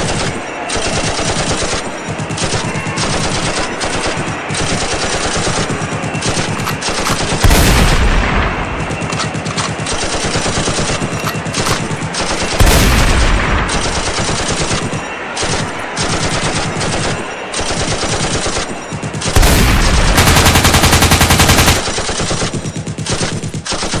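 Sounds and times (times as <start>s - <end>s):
automatic gunfire: 0.0s - 24.0s
heavy gun blasts: 0.0s - 24.0s.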